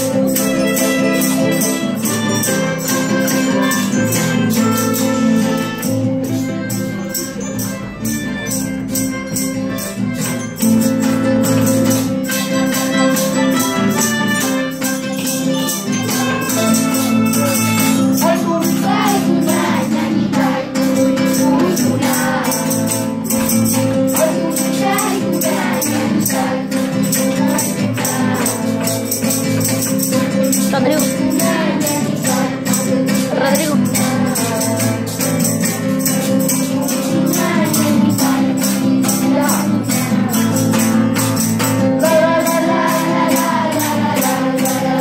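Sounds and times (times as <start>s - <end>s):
melodicas playing melody: 0.0s - 45.0s
strummed acoustic guitars: 0.0s - 45.0s.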